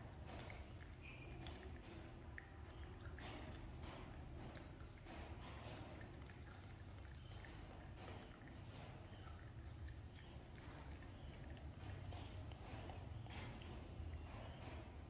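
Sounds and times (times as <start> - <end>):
low steady hum: 0.0 - 15.0
monkey chewing corn: 0.0 - 15.0.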